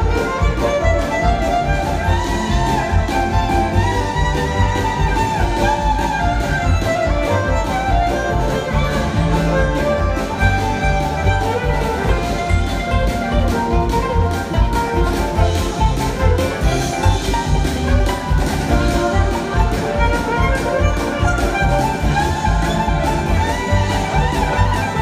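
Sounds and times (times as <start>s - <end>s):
fiddle lead line: 0.0s - 25.0s
live band playing: 0.0s - 25.0s.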